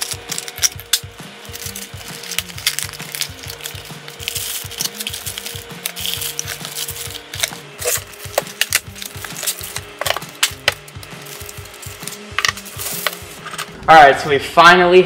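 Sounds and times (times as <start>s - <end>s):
plastic wrap crackling: 0.0s - 13.9s
background music with bass beat: 0.0s - 14.3s.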